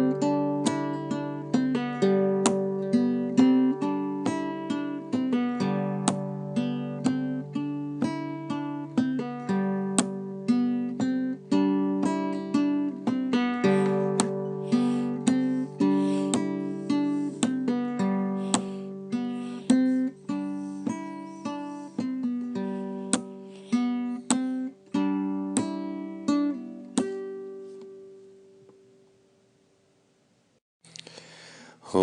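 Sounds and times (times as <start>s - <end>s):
chords strummed on strings: 0.0s - 28.5s.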